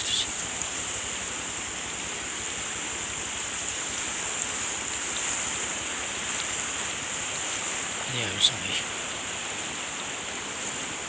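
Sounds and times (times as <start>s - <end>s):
fast-flowing river water: 0.0s - 11.0s.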